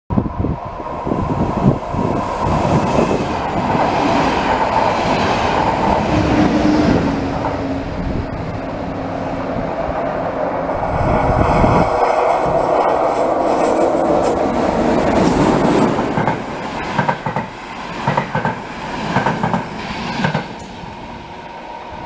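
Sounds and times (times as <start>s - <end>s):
steady train hum: 0.1s - 22.0s
train wheels rumbling and clattering: 0.9s - 8.9s, 9.6s - 21.0s.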